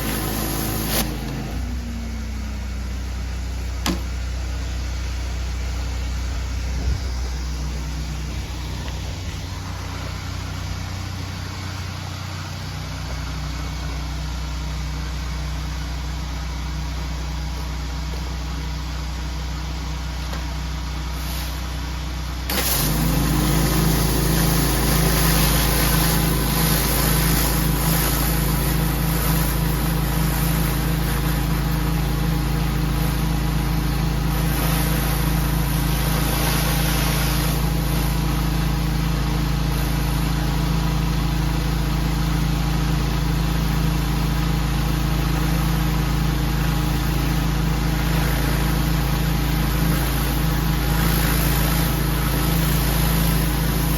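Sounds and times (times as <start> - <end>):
pressure washer engine running: 0.0 - 53.9.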